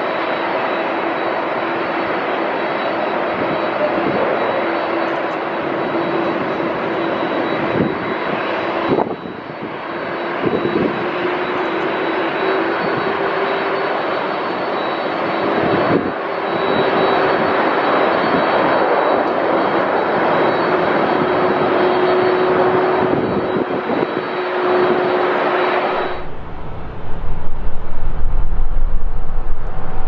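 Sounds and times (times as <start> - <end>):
jet airliner passing: 0.0 - 30.0.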